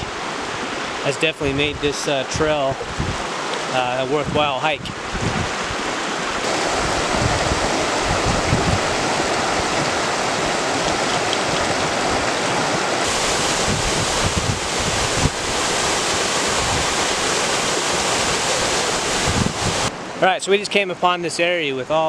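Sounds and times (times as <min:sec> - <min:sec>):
creek water rushing over rocks: 0:00.0 - 0:04.2, 0:04.9 - 0:20.2
wind rumble on microphone: 0:01.4 - 0:03.3, 0:04.1 - 0:20.0.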